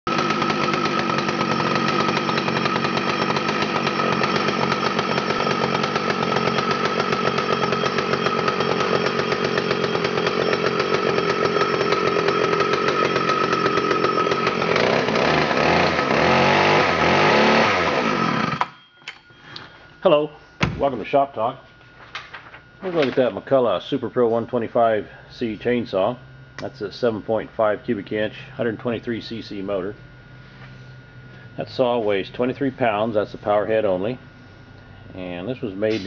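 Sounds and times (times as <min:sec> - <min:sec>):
chainsaw engine running: 0:00.1 - 0:18.8, 0:22.8 - 0:36.0.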